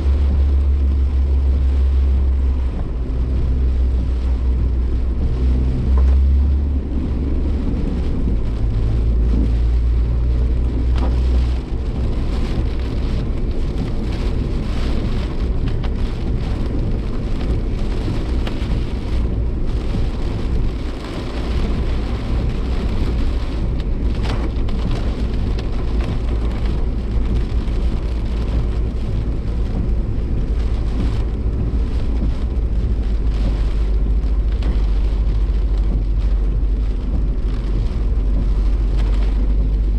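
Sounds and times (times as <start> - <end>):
engine and road drone: 0.0 - 39.9
rain hitting car body: 0.0 - 39.9.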